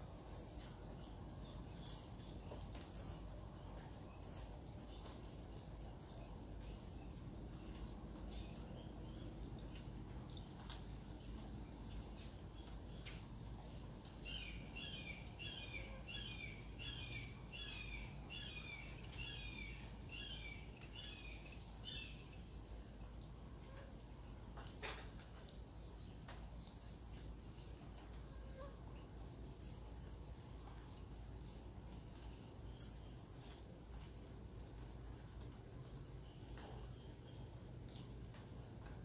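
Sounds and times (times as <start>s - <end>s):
faint outdoor background noise: 0.0s - 39.0s.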